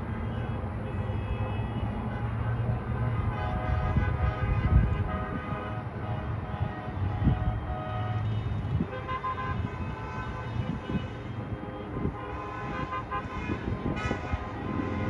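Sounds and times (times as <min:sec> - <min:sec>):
car and truck horns honking: 0:00.0 - 0:15.0
low traffic rumble: 0:00.0 - 0:15.0.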